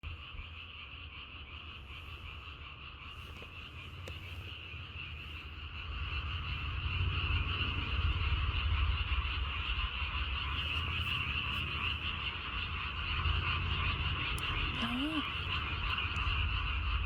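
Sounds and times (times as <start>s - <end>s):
frogs croaking chorus: 0.0s - 17.0s.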